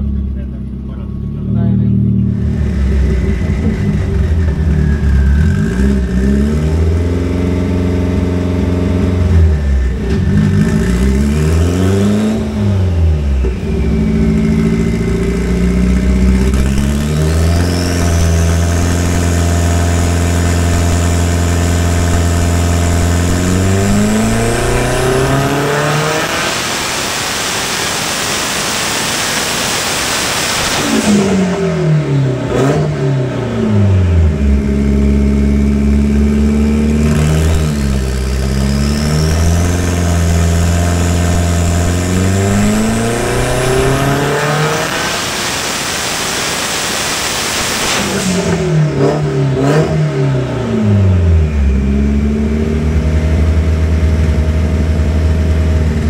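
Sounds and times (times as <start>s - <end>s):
high whine climbing in pitch: 0.0s - 49.7s
turbocharged car engine revving: 0.0s - 56.0s.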